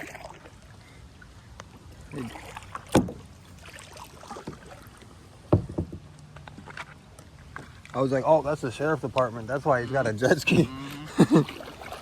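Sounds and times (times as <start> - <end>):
paddle strokes in water: 0.0 - 5.5, 6.2 - 12.0.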